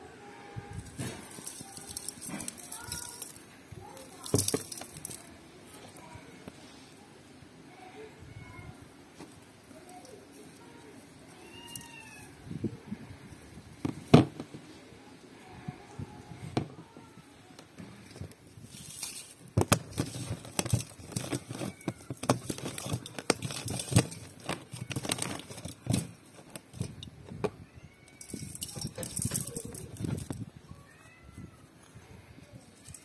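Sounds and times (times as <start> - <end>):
crinkling and rustling: 0.5 - 7.0, 8.5 - 14.8, 15.6 - 33.0.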